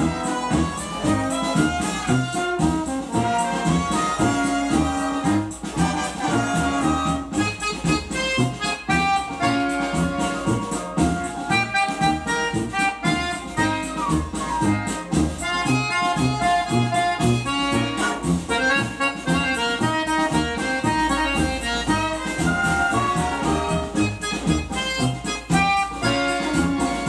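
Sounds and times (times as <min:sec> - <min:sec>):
accordion-led dance music: 0:00.0 - 0:27.0
steady bass beat: 0:00.0 - 0:27.0.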